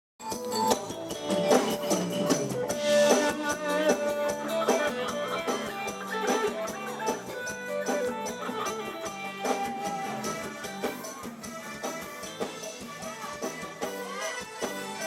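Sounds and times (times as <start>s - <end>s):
drum and percussion beat: 0.2s - 15.0s
live band playing folk music: 0.2s - 15.0s.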